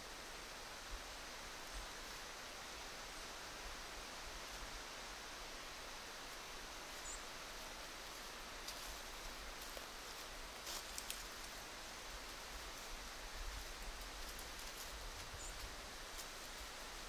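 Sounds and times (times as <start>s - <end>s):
woodland hiss: 0.0s - 17.0s
rustles in dry leaves: 1.8s - 17.0s.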